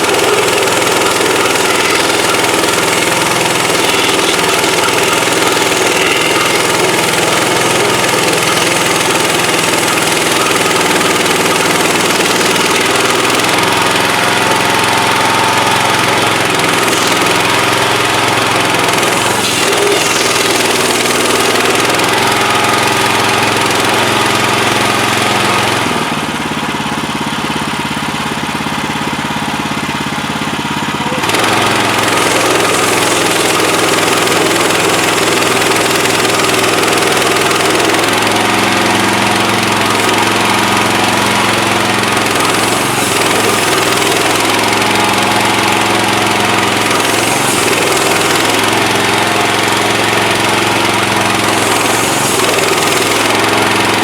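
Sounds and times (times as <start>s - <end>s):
sawmill gas engine running: 0.0s - 54.0s.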